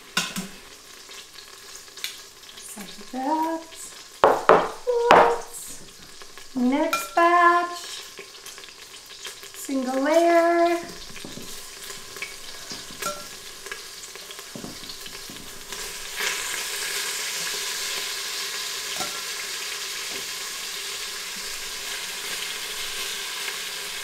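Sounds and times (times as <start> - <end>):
meat sizzling in hot oil: 0.0 - 24.0.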